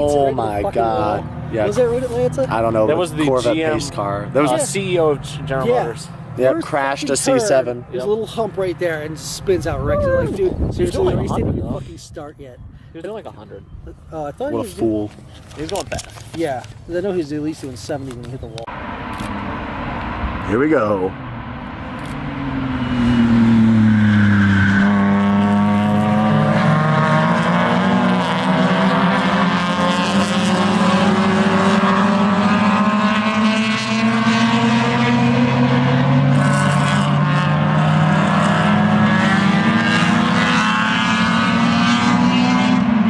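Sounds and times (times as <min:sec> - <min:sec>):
race cars passing at high revs: 0:00.0 - 0:11.8, 0:18.2 - 0:43.0.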